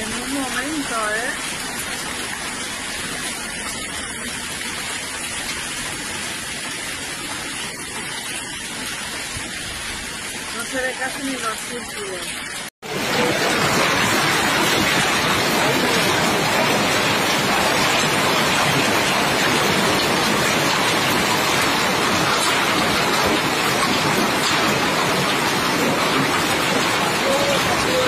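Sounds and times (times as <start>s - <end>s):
hail falling on a terrace: 0.0s - 28.0s.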